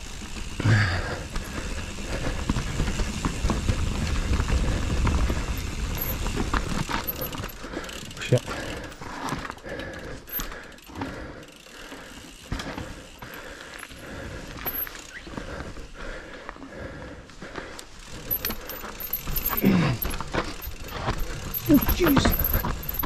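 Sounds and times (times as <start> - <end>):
bike chain and frame rattling: 0.0 - 23.0
tyres on dirt and roots: 0.0 - 23.0.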